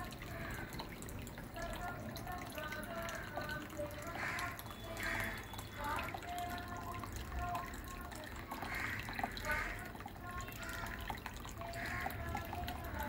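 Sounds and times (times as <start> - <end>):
fountain water trickling: 0.0 - 13.0
water drops plinking: 0.0 - 13.0.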